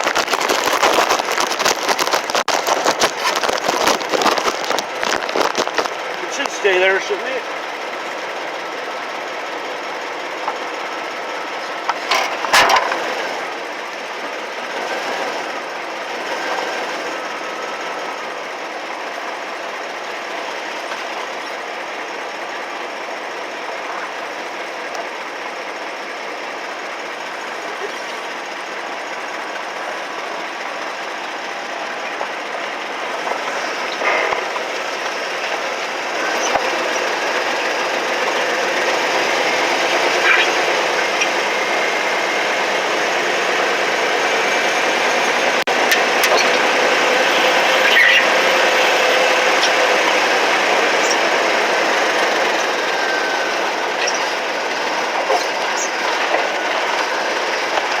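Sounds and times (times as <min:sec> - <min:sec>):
mechanical running noise: 0:00.0 - 0:58.0.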